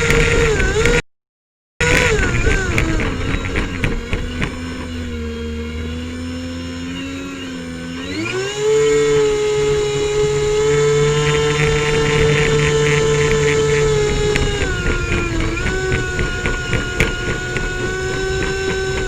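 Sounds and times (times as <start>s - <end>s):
airboat engine and propeller: 0.0s - 1.0s, 1.8s - 19.0s.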